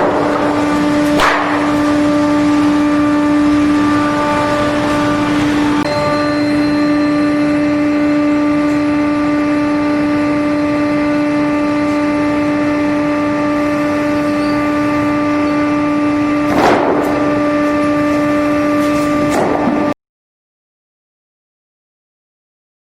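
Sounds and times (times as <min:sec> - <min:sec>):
sawmill saw blades whining: 0:00.0 - 0:19.9.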